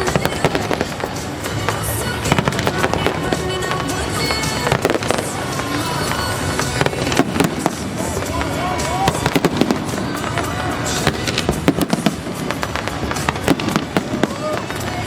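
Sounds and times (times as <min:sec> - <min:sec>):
fireworks crackling: 0:00.0 - 0:15.0
fireworks exploding: 0:00.0 - 0:15.0
music: 0:00.0 - 0:15.0.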